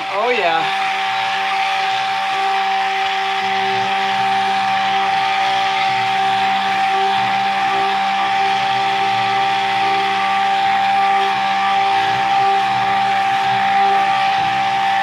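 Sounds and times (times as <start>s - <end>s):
stick blender motor whine: 0.0s - 15.0s.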